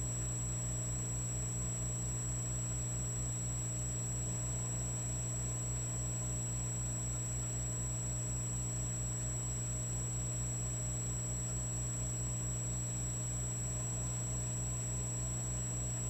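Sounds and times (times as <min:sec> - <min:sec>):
electric fireplace humming: 0:00.0 - 0:16.0.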